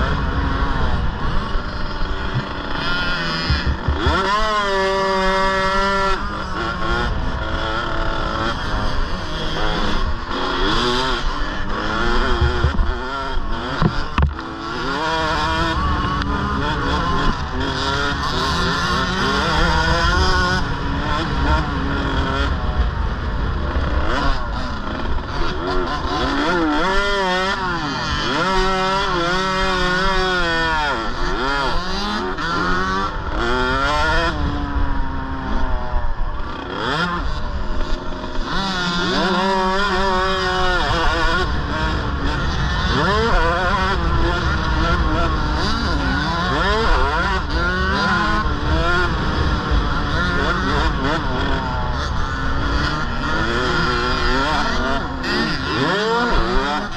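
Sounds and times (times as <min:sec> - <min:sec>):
two-stroke engines revving: 0:00.0 - 0:56.9.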